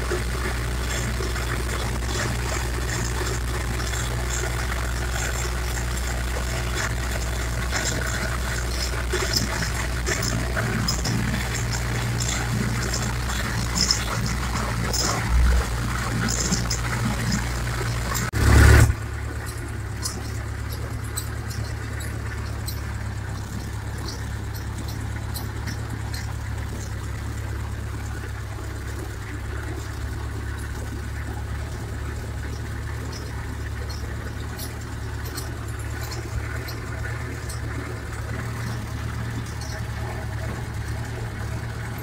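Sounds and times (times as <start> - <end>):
tractor diesel engine drone: 0.0 - 42.0.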